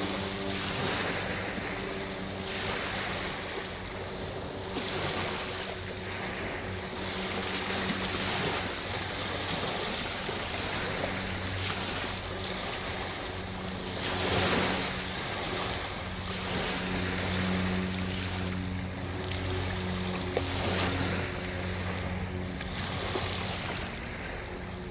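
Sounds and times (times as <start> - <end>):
boat engine droning: 0.0 - 24.9
river water washing: 0.0 - 24.9.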